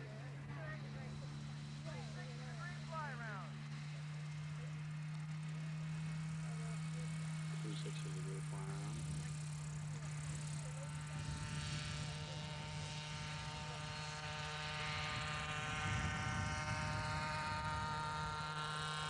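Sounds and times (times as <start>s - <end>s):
model helicopter engine whining: 0.0s - 19.0s.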